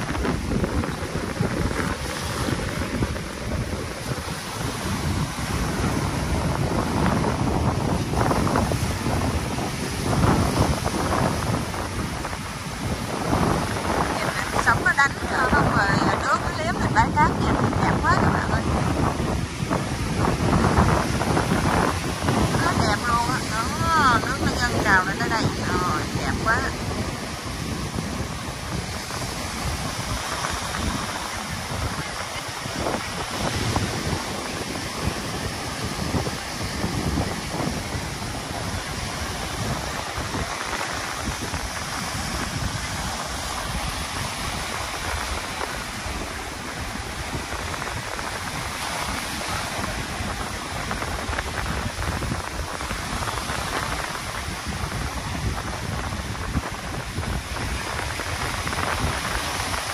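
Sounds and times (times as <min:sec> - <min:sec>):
sea surf washing up a beach: 0:00.0 - 0:59.9.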